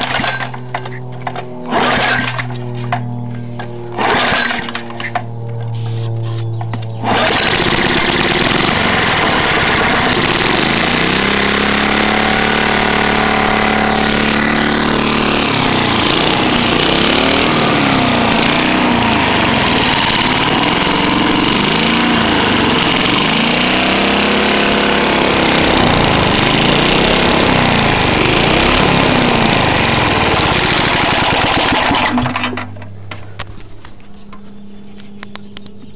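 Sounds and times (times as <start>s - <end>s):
lawn mower engine revving: 0.0s - 34.0s.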